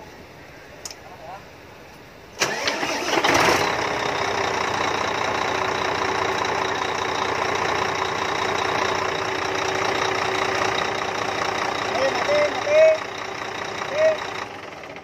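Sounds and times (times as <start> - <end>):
diesel truck engine idling: 2.4 - 15.0.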